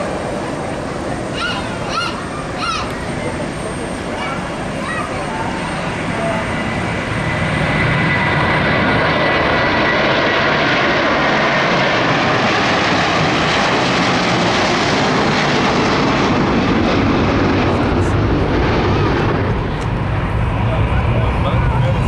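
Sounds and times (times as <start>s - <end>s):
high jet whine: 0.0s - 22.0s
jet engine roar: 0.0s - 22.0s.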